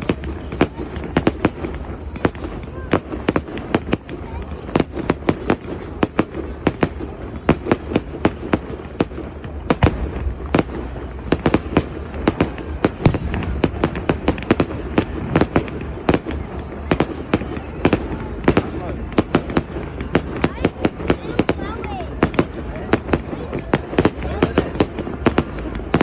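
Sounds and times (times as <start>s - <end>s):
fireworks bangs: 0.0s - 26.0s
rumble of firework bursts: 0.0s - 26.0s.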